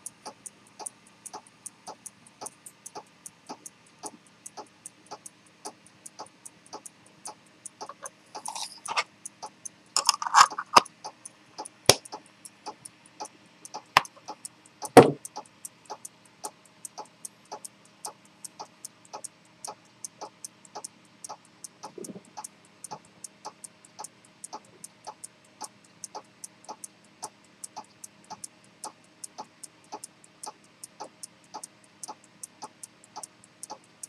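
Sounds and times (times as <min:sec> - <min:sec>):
pocket watch ticking: 0:00.0 - 0:34.0.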